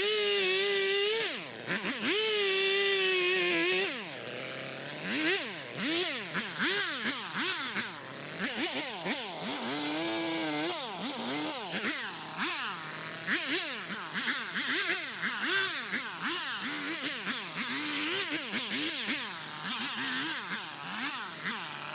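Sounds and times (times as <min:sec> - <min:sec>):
chainsaw revving: 0:00.0 - 0:21.9.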